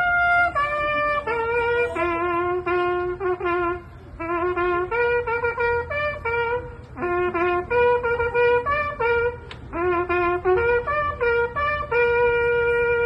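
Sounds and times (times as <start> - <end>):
solo trumpet playing: 0.0 - 13.0.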